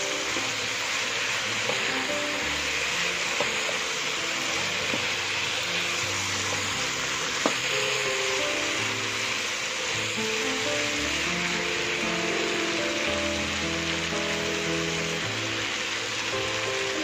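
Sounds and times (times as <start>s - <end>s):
soft background music: 0.0s - 17.0s
vegetables sizzling in a wok: 0.0s - 17.0s.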